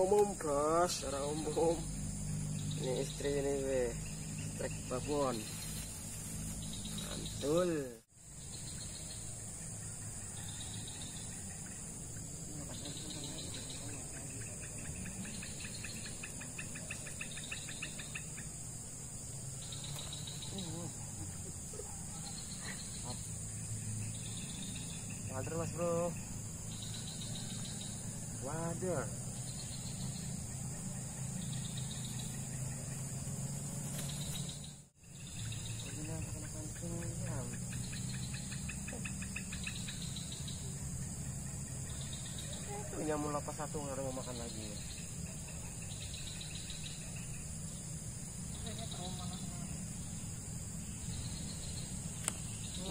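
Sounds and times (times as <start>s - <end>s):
insects trilling: 0.0s - 52.9s
rapid insect chirps: 0.0s - 52.9s.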